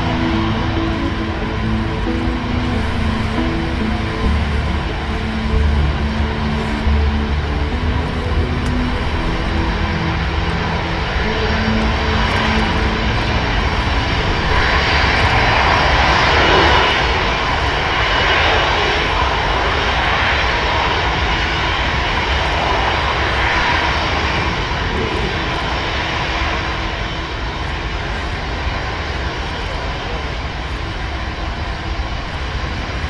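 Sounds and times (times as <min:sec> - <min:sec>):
aircraft engine running: 0:00.0 - 0:33.0.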